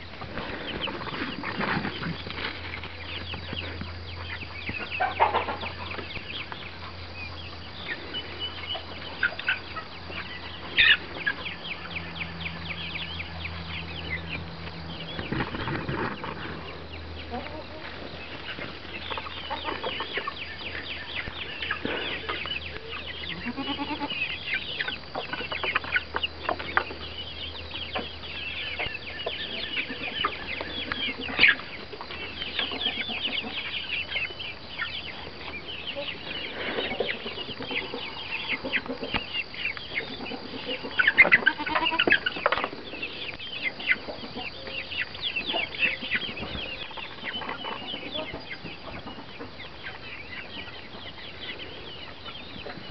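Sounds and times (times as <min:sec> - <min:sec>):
birds clucking and chirping: 0:00.0 - 0:52.9.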